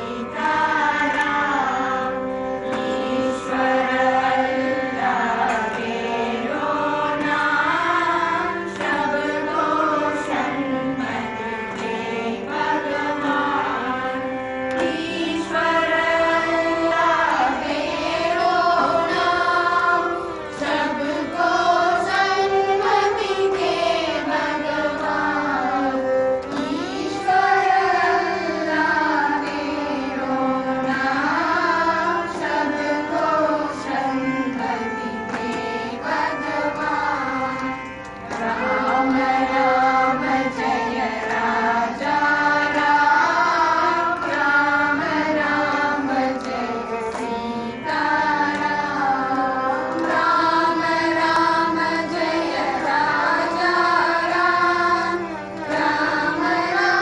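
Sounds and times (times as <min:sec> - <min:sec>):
group singing devotional song: 0:00.0 - 0:57.0
steady drone: 0:00.0 - 0:57.0
violin: 0:00.0 - 0:57.0.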